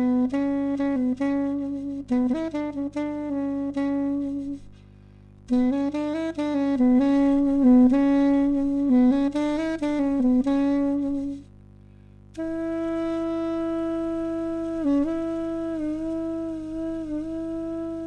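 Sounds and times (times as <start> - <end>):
wind instrument melody: 0.0 - 4.7, 5.5 - 11.5, 12.4 - 18.0.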